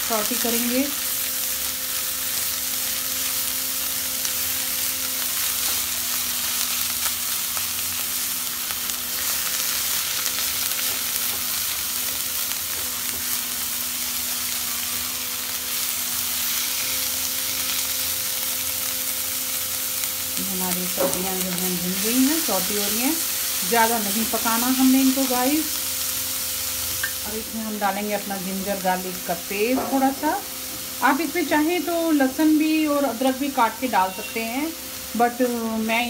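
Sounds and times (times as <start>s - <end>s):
vegetables sizzling in oil: 0.0s - 36.0s.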